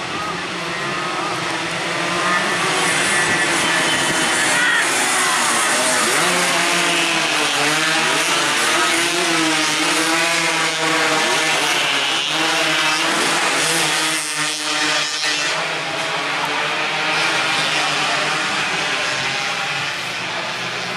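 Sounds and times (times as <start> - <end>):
racing motorcycles at high revs: 0.0 - 20.9.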